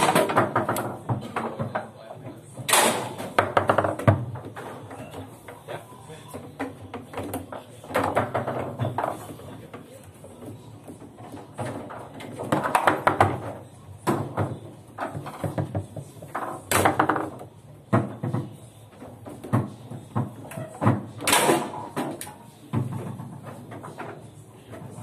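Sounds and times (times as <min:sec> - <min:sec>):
table football clacks and knocks: 0:00.0 - 0:05.7, 0:06.3 - 0:25.0.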